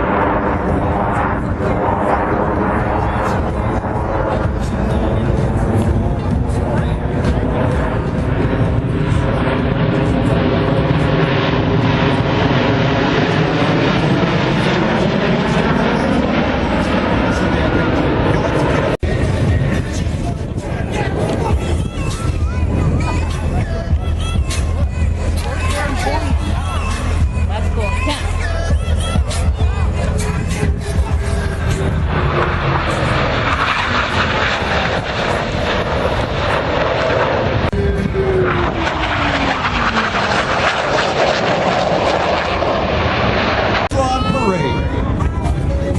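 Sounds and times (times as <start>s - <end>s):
airplane engine: 0.0s - 45.9s.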